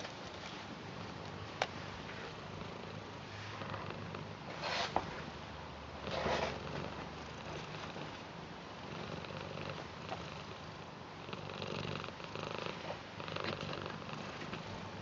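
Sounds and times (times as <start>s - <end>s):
cat purring: 0.0s - 5.2s, 6.0s - 15.0s.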